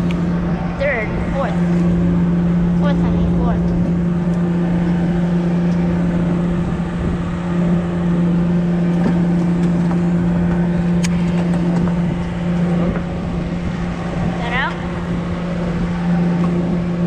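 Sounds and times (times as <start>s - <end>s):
boat engine humming: 0.0s - 17.0s
wind and sea noise: 0.0s - 17.0s.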